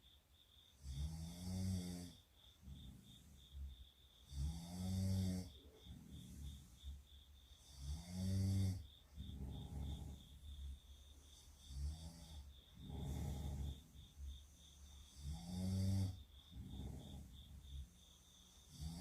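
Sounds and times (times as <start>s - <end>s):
quiet breathing: 0.0s - 19.0s
person snoring: 0.8s - 3.6s, 4.2s - 7.0s, 7.6s - 10.7s, 11.4s - 18.0s, 18.6s - 19.0s.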